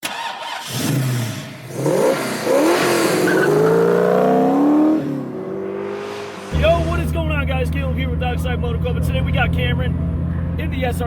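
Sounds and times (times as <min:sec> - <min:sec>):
car engine accelerating hard: 0:00.7 - 0:11.0.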